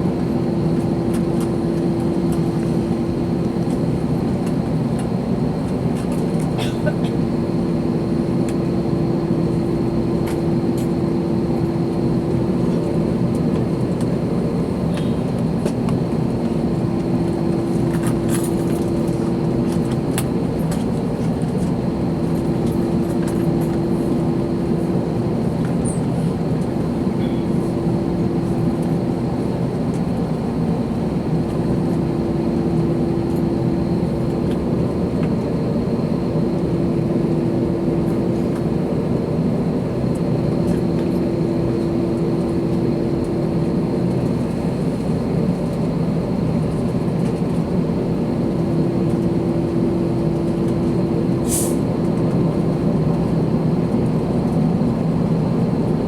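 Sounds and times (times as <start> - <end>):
aircraft engine noise: 0.0 - 56.0
droning hum: 0.0 - 56.0.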